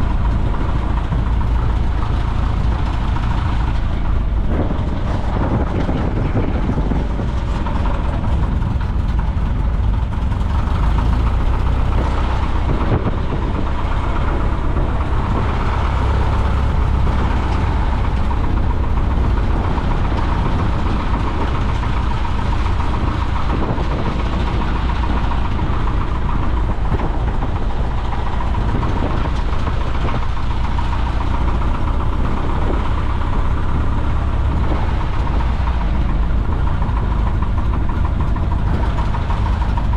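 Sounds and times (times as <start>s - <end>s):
light aircraft engine drone: 0.0s - 39.9s
rushing air: 0.0s - 39.9s.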